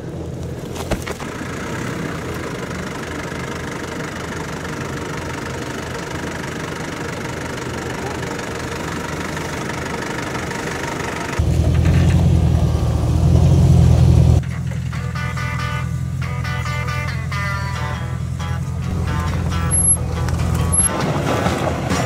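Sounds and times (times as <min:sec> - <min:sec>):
truck engine at low revs: 0:00.0 - 0:22.0.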